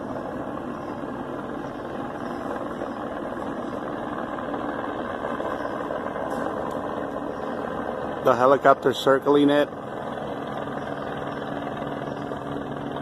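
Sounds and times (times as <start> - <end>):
steady engine drone: 0.0 - 13.0.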